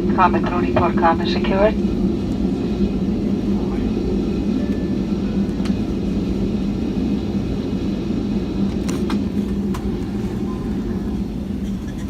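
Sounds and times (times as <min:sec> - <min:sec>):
airplane cabin hum: 0:00.0 - 0:12.0.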